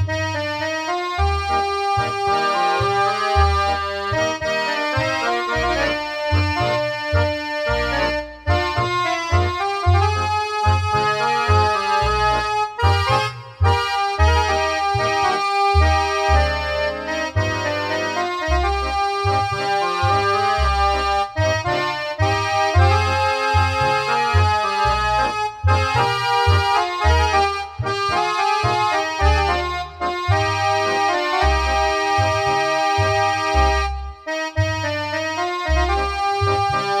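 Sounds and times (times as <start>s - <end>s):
accordion-led music: 0.0s - 37.0s
pulsing bass line: 0.0s - 37.0s.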